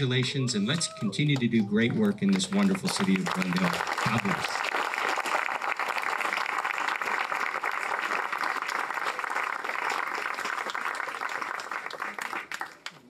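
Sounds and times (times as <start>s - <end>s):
audience applauding: 0.7s - 13.0s.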